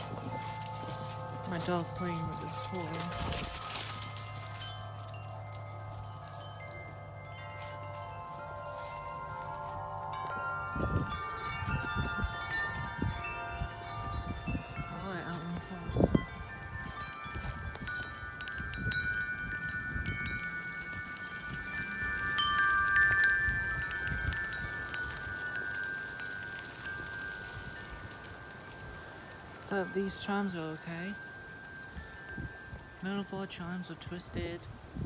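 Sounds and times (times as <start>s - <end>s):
wind chimes ringing: 0.0s - 35.0s
wind rumble on microphone: 0.0s - 35.0s.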